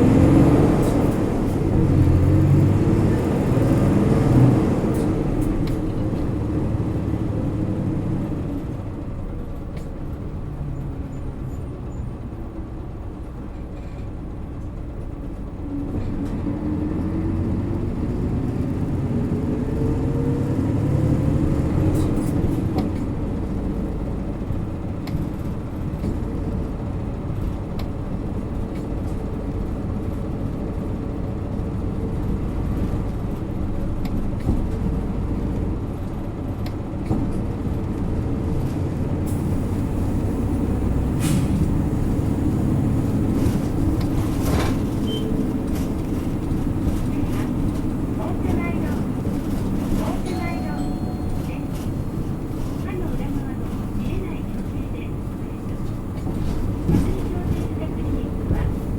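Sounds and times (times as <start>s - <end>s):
bus diesel engine running: 0.0s - 58.9s.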